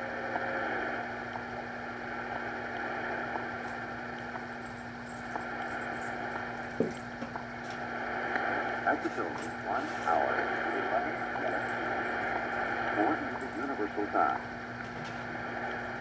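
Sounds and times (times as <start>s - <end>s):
background hum and hiss: 0.0s - 16.0s
constant low tone: 0.0s - 16.0s.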